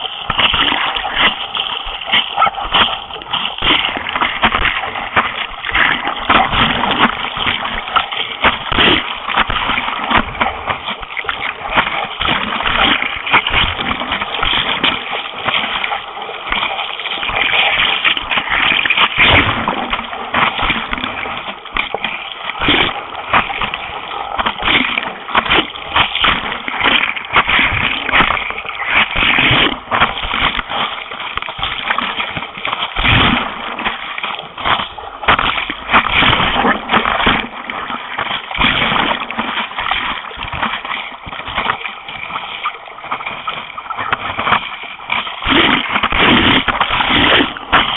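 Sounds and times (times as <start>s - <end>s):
seawater splashing around a board: 0.0s - 47.9s.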